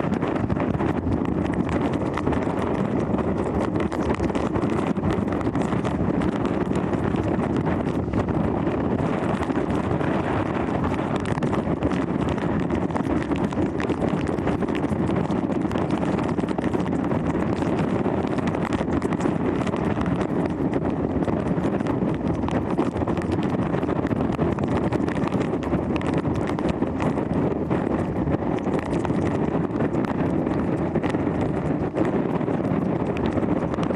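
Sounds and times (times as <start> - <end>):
strong wind buffeting microphone: 0.0 - 33.9.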